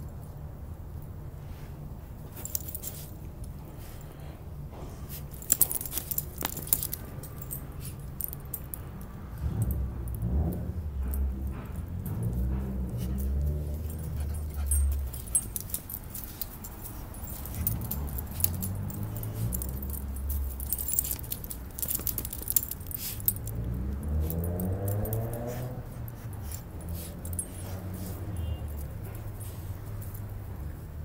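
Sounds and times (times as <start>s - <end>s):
metal dog tags jingling: 2.2s - 4.1s, 5.1s - 31.0s.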